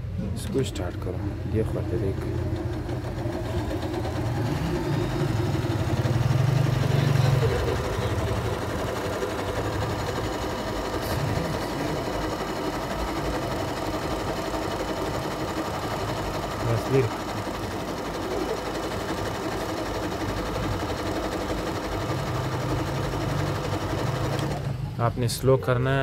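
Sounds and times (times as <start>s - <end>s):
electric sewing machine stitching: 1.8s - 24.9s.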